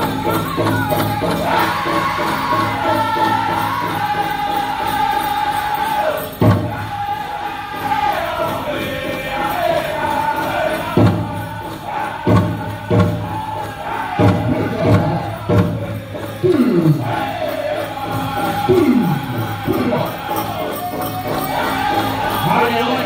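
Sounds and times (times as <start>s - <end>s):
group singing high voices: 0.0s - 23.0s.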